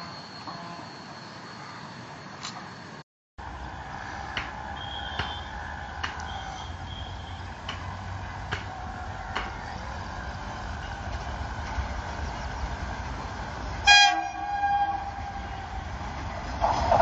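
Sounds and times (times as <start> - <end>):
distant electric train rumble: 0.0 - 17.0.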